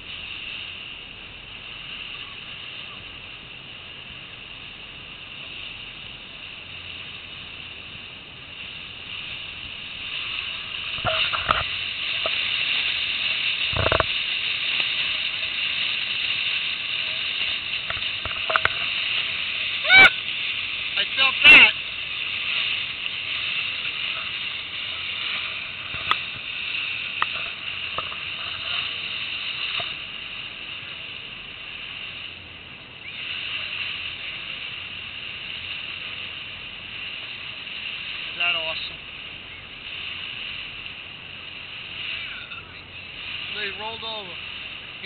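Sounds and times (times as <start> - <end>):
water rushing past boat: 0.0 - 45.0.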